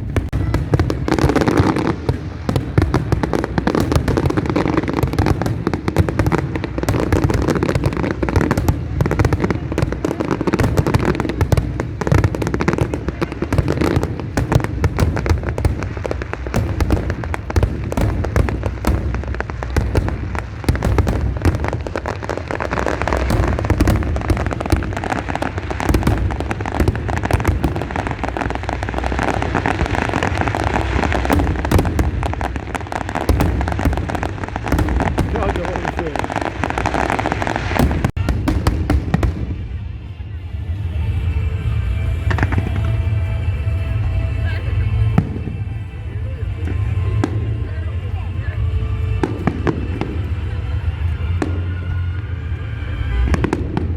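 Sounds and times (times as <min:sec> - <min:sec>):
deep rolling rumble: 0:00.0 - 0:53.9
fireworks bangs and crackling: 0:00.0 - 0:53.9.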